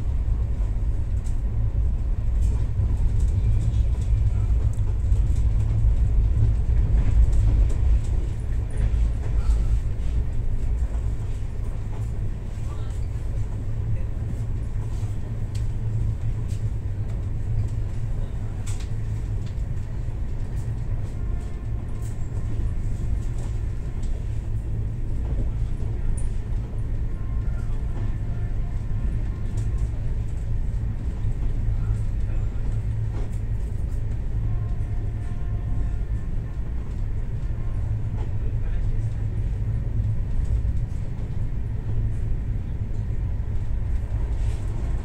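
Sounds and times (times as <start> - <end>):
train rumbling on track: 0.0 - 45.0.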